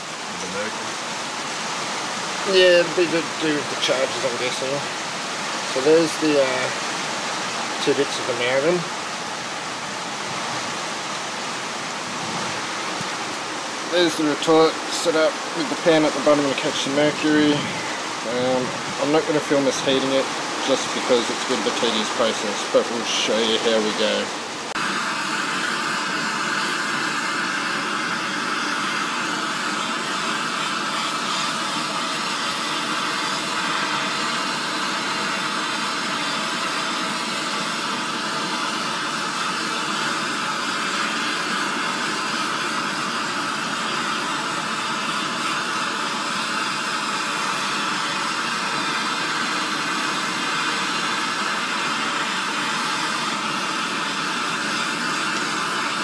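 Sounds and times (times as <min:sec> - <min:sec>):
blowtorch flame hissing: 0:00.0 - 0:56.0.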